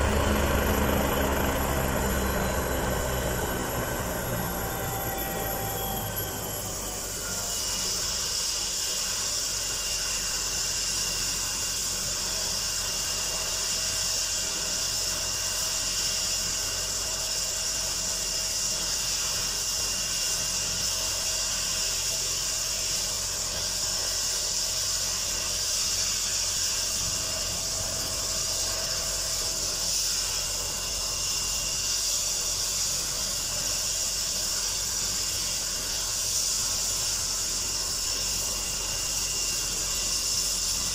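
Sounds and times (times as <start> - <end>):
helicopter turbine engines running: 0.0 - 40.9.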